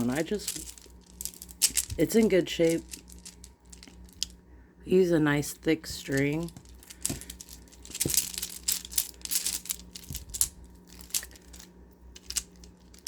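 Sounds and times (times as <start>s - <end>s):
plastic beads clicking and rattling: 0.0s - 4.3s, 5.9s - 13.0s.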